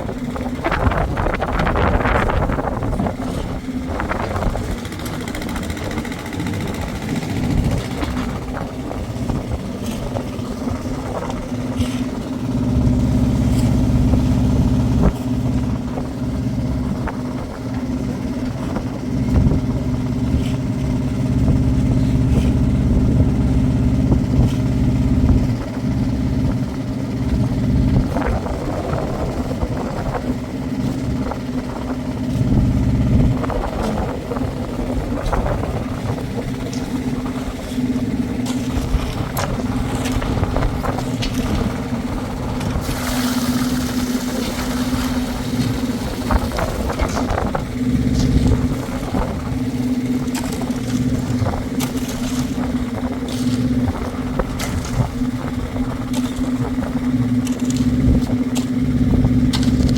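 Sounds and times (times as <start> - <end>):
engine humming steadily: 0.0 - 59.9.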